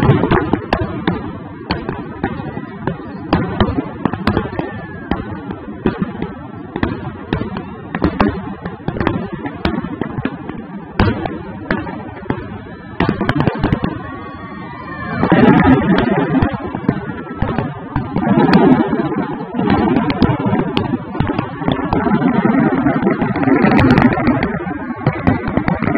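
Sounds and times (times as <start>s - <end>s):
crackling rumble: 0.0s - 25.9s.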